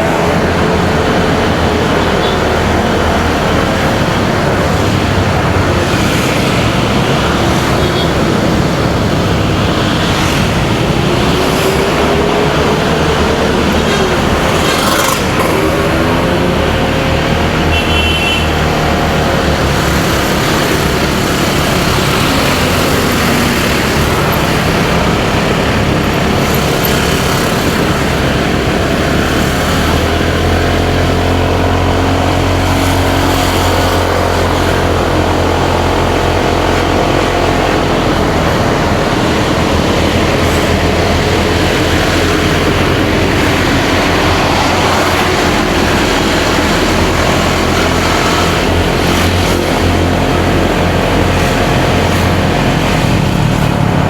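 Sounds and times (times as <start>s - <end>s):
wind rush: 0.0s - 17.6s, 18.7s - 54.0s
motorcycle engine revving: 0.0s - 54.0s
road traffic: 0.0s - 54.0s.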